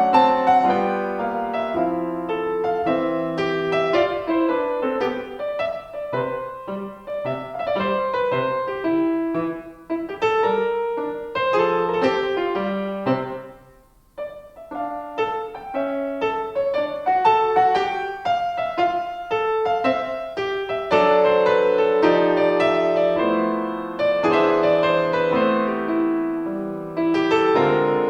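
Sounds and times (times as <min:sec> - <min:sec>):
solo piano piece: 0:00.0 - 0:28.0.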